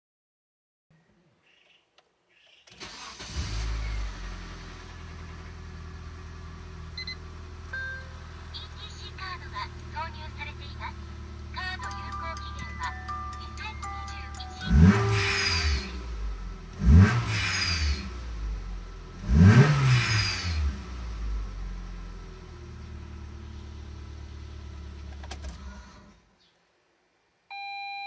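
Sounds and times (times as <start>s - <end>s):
car engine revving and idling: 2.9s - 12.3s, 12.9s - 26.3s.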